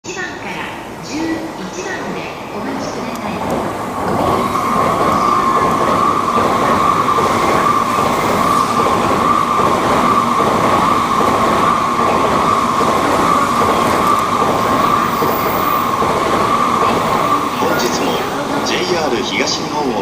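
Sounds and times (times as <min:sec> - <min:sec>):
bullet train rushing past: 0:00.1 - 0:20.0.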